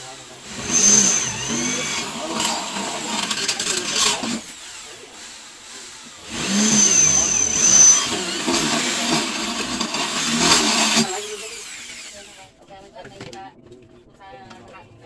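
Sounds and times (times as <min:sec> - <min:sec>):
electric drill drilling into metal: 0:00.0 - 0:12.5.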